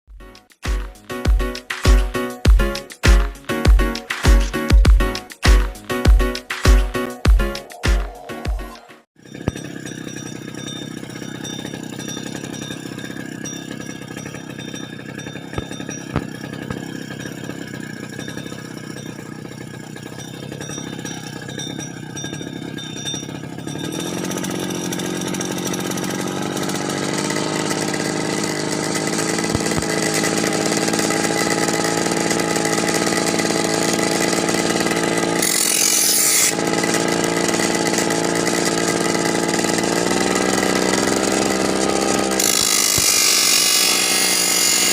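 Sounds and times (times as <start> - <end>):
brush cutter engine revving: 1.5 - 44.9.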